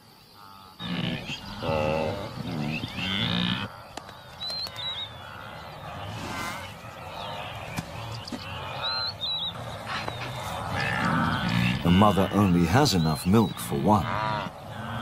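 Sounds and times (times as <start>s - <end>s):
birds chirping: 0.0s - 15.0s
wildebeest grunting and calling: 0.2s - 15.0s.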